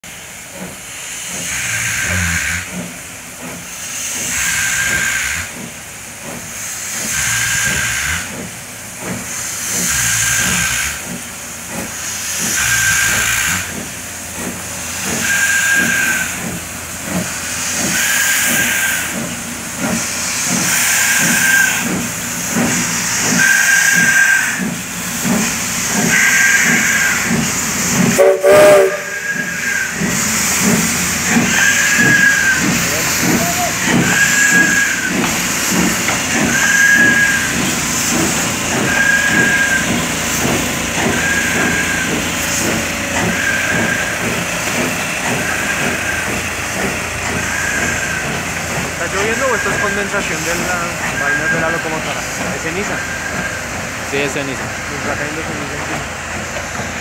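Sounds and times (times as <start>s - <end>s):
steam locomotive hissing bursts: 0.1s - 57.0s.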